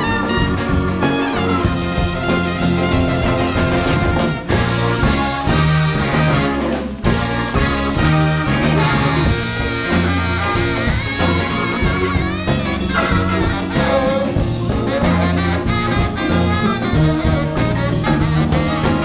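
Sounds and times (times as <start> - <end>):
rock band playing: 0.0 - 19.0
saxophone leading: 0.0 - 19.0.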